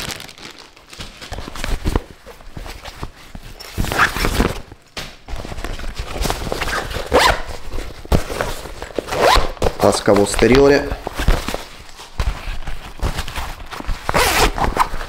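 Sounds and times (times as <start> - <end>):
stiff fabric bag rustling: 0.0 - 4.6, 5.4 - 15.0.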